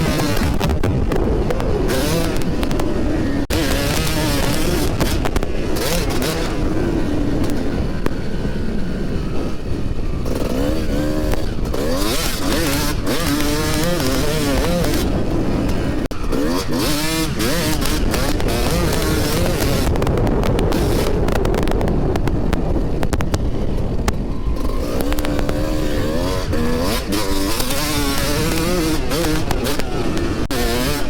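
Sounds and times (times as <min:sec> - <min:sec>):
dirt bike engine revving: 0:00.0 - 0:31.0
wind noise on microphone: 0:00.0 - 0:31.0.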